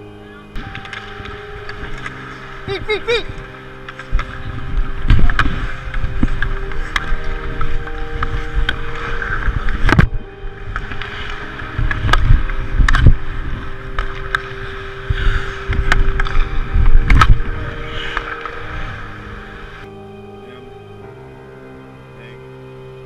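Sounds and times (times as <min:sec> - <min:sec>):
wind on microphone: 0:00.0 - 0:19.9
low hum: 0:00.0 - 0:23.0
hockey sticks and puck clacking: 0:00.6 - 0:19.8
skates carving on ice: 0:00.8 - 0:19.8.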